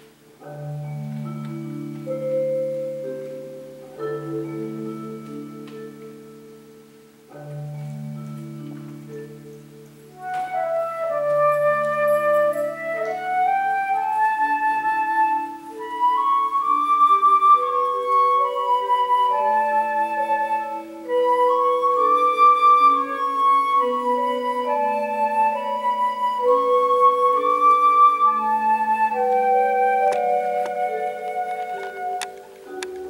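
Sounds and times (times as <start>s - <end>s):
flute melody: 0.0s - 33.0s
sustained keyboard chords: 0.0s - 33.0s.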